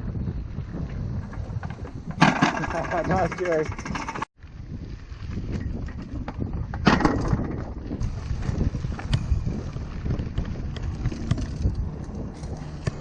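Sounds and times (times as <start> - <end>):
bike rattling: 0.0 - 13.0
mountain bike rolling over dirt: 0.0 - 13.0
wind buffeting microphone: 0.0 - 13.0.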